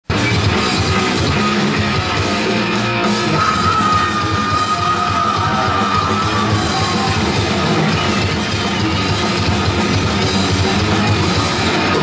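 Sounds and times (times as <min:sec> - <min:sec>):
heavy rock band playing live: 0:00.0 - 0:12.0.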